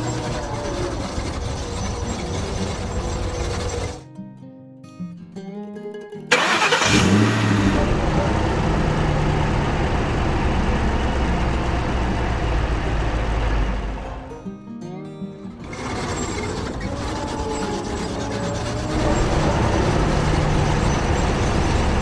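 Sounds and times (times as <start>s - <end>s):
engine starting and humming: 0.0s - 4.0s, 6.3s - 14.0s, 15.6s - 22.0s.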